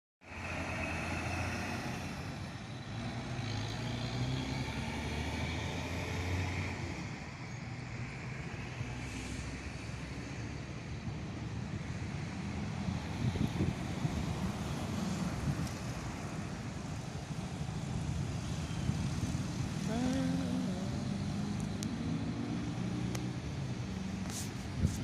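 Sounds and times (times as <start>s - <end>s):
truck engine hum and road noise: 0.2s - 25.0s.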